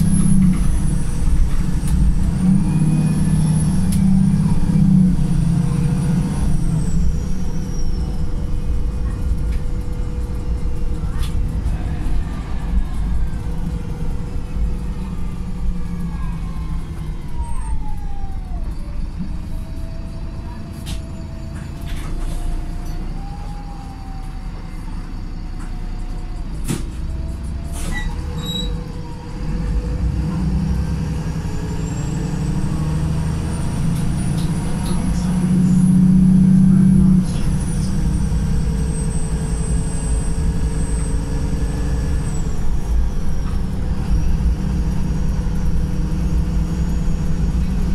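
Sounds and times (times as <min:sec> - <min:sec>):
bus engine and gearbox whine: 0:00.0 - 0:47.9.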